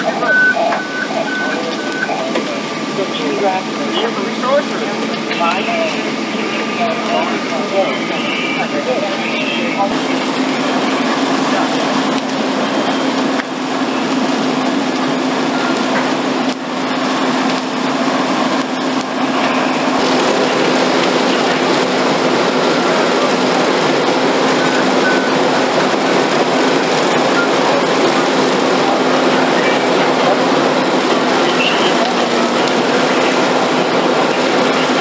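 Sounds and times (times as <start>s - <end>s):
building burning: 0.0s - 35.0s
fire engine pump droning: 0.0s - 35.0s.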